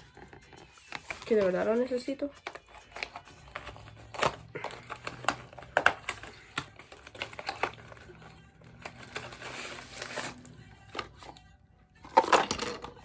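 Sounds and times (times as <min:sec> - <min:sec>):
packaging rustling: 0:00.7 - 0:11.4.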